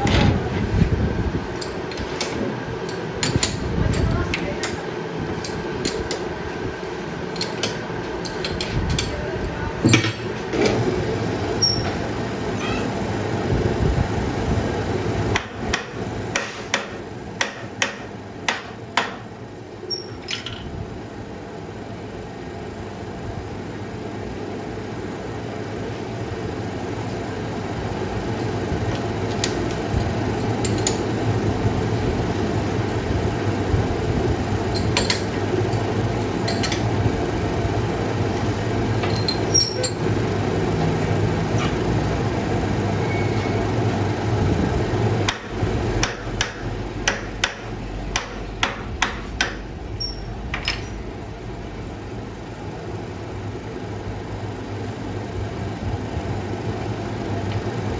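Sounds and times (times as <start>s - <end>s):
workshop machine humming: 0.0s - 57.9s.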